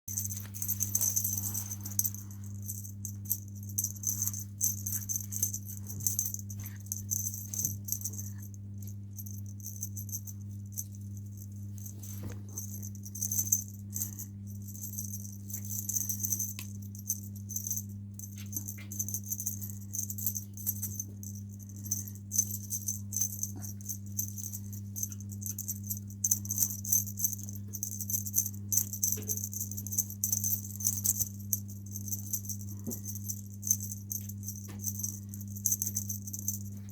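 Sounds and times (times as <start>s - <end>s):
jingling and rattling: 0.1s - 36.9s
low electrical hum: 0.1s - 36.9s.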